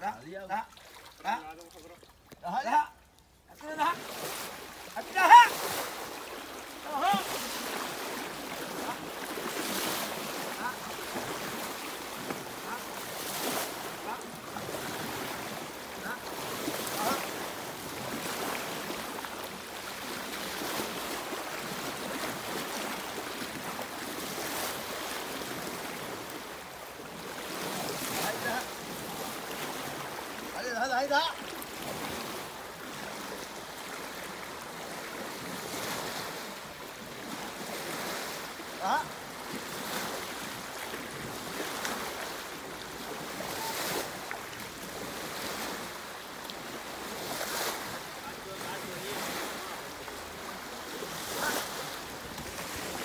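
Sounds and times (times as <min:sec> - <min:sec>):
river water rushing and splashing: 0:00.0 - 0:53.0.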